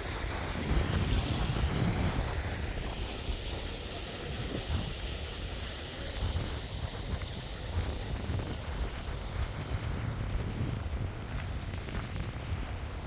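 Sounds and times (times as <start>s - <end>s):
steady hiss: 0.0s - 13.0s
wind buffeting microphone: 0.0s - 13.0s.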